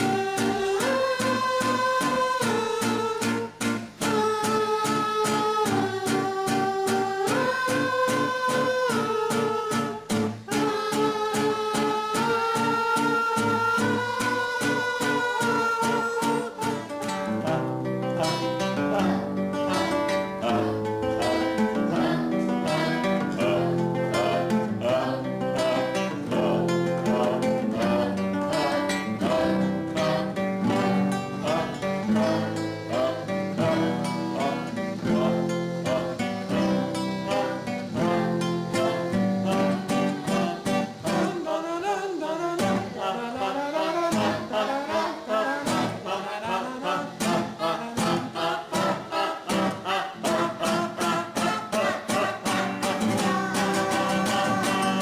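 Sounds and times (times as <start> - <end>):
plucked acoustic guitar music: 0.0 - 55.0.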